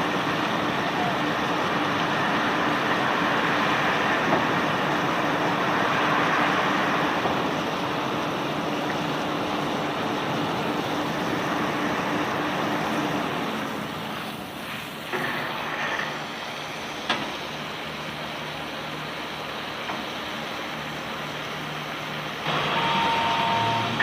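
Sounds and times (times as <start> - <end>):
conveyor belt running: 0.0 - 24.0.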